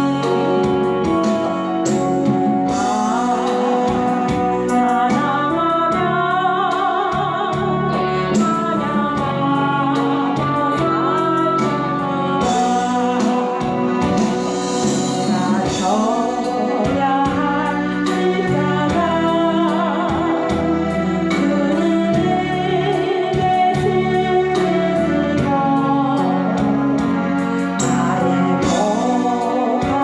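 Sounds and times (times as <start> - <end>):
instrumental backing: 0.0 - 30.0
person singing with vibrato: 0.0 - 30.0.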